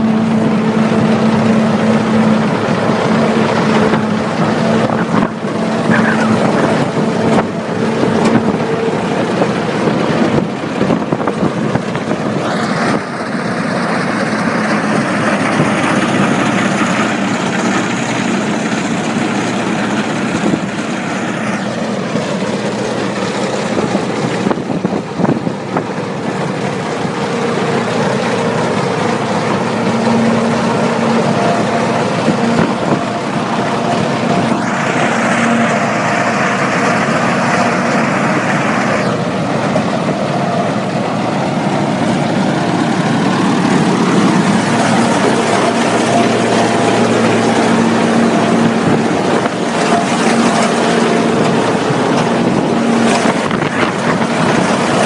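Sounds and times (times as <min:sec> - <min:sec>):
engine hum: 0:00.0 - 0:55.0
crop being cut rushing noise: 0:00.2 - 0:55.0.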